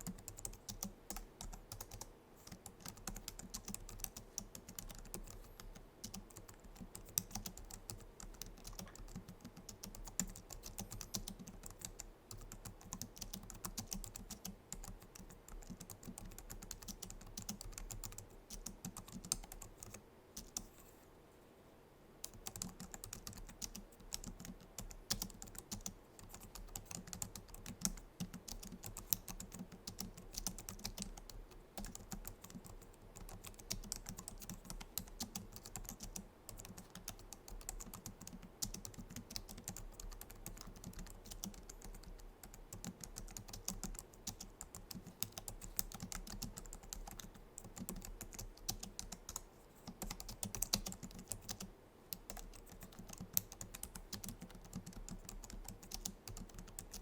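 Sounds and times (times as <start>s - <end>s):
keyboard typing clicks: 0.0s - 20.7s, 22.2s - 57.0s.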